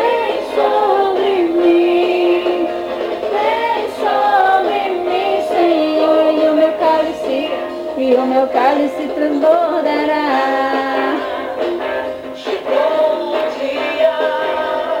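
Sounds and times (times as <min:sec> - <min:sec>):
song with singer: 0:00.0 - 0:15.0.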